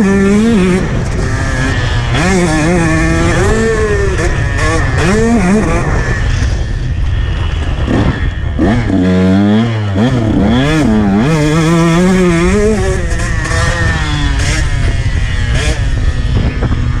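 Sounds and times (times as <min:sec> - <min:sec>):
motocross bike engine revving: 0:00.0 - 0:17.0
wind rumble on microphone: 0:00.0 - 0:17.0.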